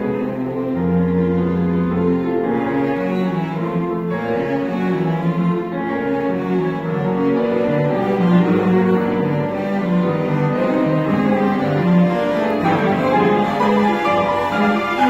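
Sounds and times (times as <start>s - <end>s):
cello: 0.0s - 15.0s
grand piano: 0.0s - 15.0s
violin: 0.0s - 15.0s.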